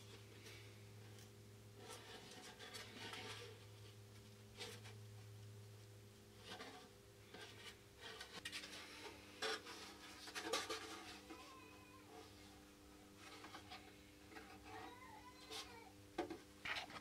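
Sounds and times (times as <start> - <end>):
soft rubbing and scratching: 0.0 - 5.4, 6.2 - 15.9, 16.6 - 17.0
faint electrical hum: 0.0 - 17.0.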